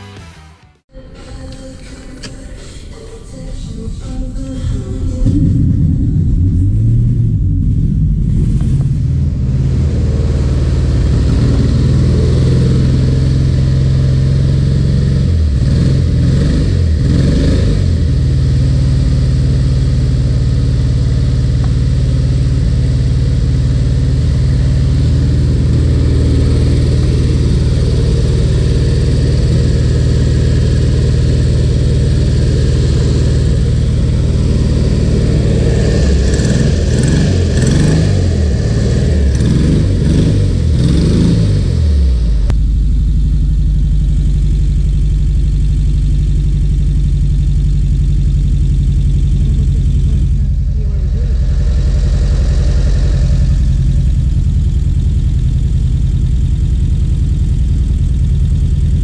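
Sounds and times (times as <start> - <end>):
car engine idling and revving: 4.4 - 59.0.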